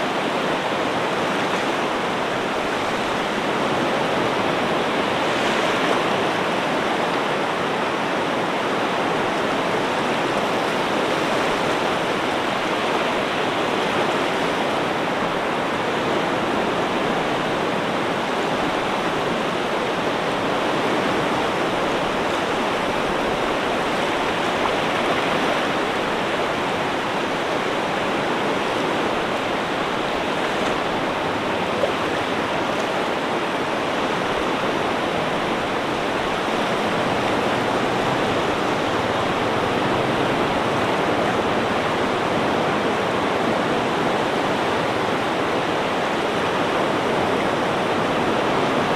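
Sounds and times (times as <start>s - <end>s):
rushing water roar: 0.0s - 48.9s.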